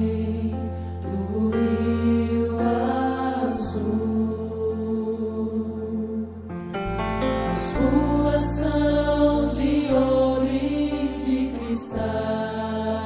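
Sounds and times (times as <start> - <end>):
worship song with singing: 0.0 - 6.6, 7.2 - 13.0.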